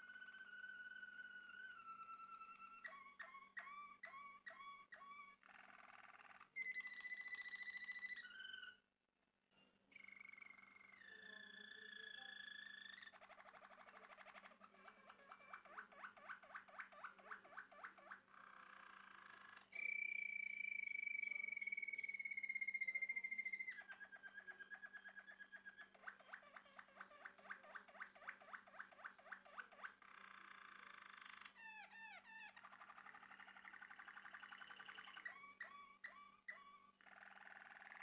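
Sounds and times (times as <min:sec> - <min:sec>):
canary singing: 0:00.0 - 0:08.8, 0:09.9 - 0:38.0.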